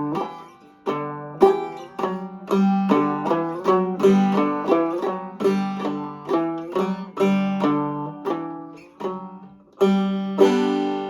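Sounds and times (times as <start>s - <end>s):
banjo picking: 0.0s - 11.0s.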